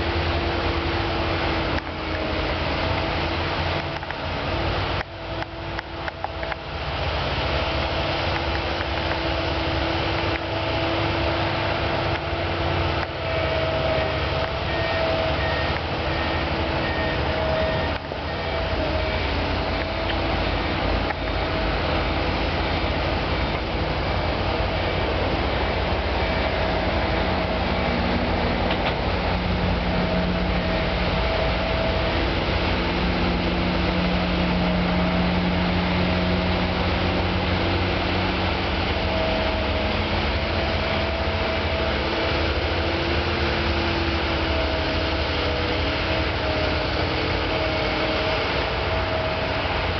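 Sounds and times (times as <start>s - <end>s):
faint whining tones: 0.0s - 49.9s
heavy machinery engine rumble: 0.0s - 49.9s.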